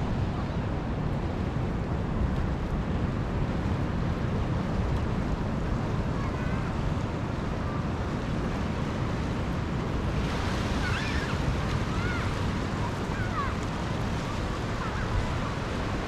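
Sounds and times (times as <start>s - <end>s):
sea surf washing ashore: 0.0s - 16.0s
wind on microphone: 0.0s - 16.0s.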